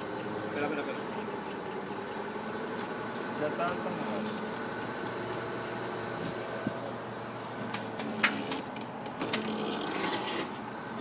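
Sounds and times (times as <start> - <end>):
forklift droning hum: 0.0 - 11.0.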